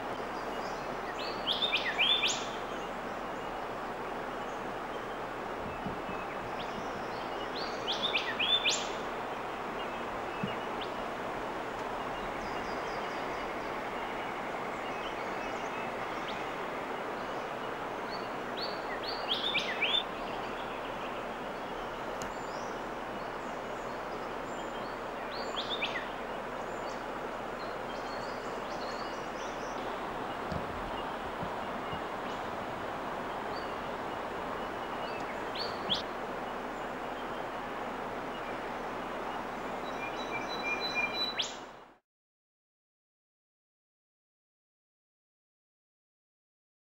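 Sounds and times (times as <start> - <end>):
bird calling: 0.0 - 37.6, 38.3 - 41.7
steady background hiss: 0.0 - 42.0.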